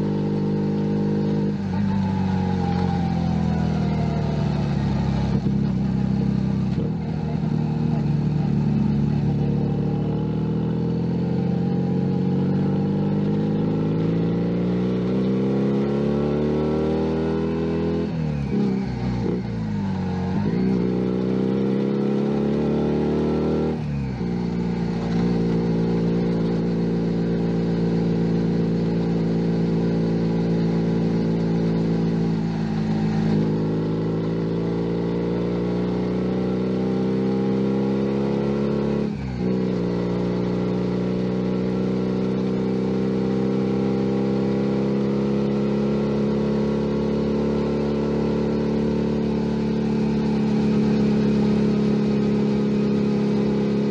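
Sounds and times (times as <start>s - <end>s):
motorcycle engine while riding: 0.0s - 53.9s.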